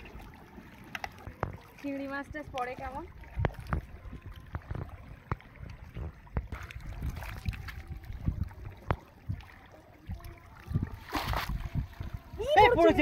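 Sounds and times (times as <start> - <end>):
water sloshing and dripping: 0.0 - 13.0.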